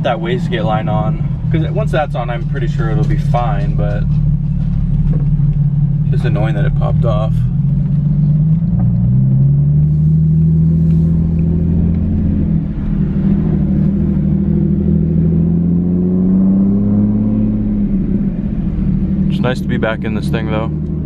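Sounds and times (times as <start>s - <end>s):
car engine from inside cabin: 0.0s - 21.0s.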